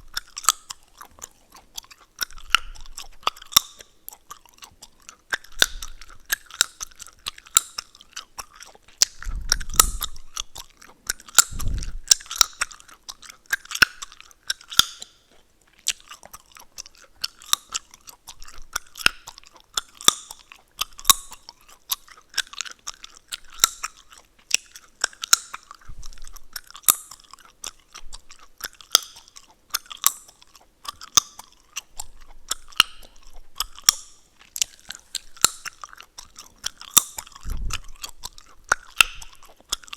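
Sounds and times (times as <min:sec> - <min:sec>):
gum crackling snaps: 0:00.0 - 0:39.9
wet gum chewing: 0:00.0 - 0:39.9.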